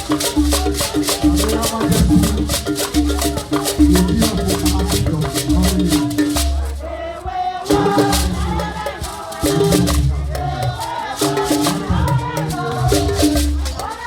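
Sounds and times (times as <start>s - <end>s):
repeating bass beat: 0.0s - 6.8s, 7.7s - 13.9s
rapid shaker rattle: 0.0s - 14.0s.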